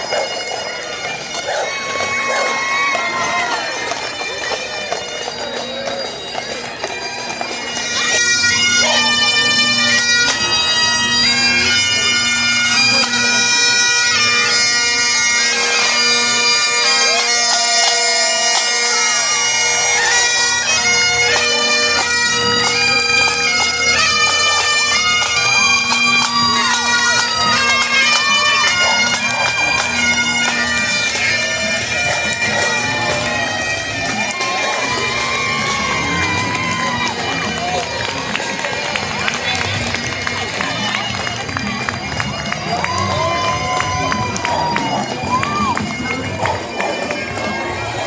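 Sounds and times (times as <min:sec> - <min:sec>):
bagpipes playing a tune: 0:00.0 - 0:48.0.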